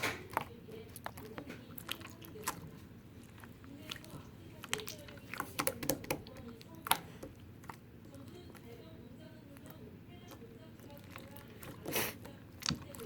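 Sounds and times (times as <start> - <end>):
slime squishing: 0.0 - 13.0.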